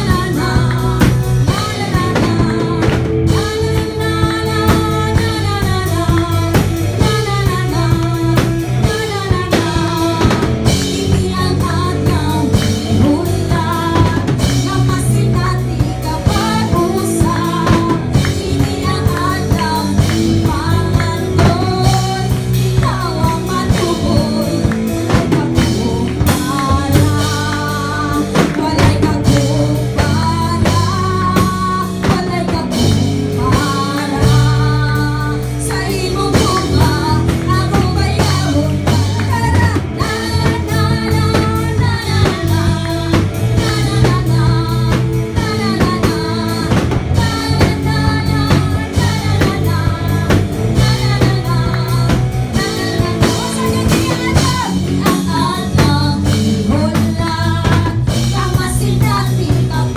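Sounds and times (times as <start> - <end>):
amplified instrumental accompaniment: 0.0 - 59.9
woman singing into microphone: 0.0 - 59.9.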